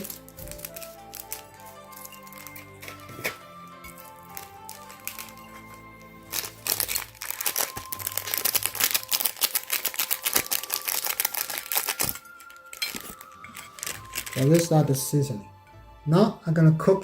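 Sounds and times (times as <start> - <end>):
packet crinkling and rustling: 0.0 - 15.0
background music: 0.0 - 17.0.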